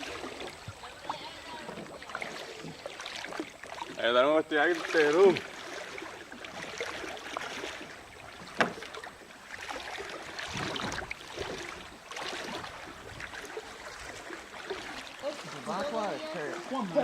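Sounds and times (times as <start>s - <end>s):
paddle splashes: 0.0s - 17.0s
water against kayak hull: 0.0s - 17.0s.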